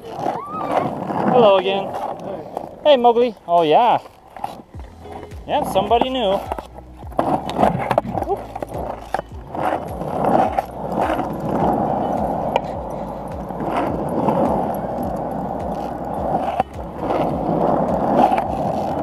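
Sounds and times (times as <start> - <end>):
skateboard wheels rolling on asphalt: 0.0 - 19.0.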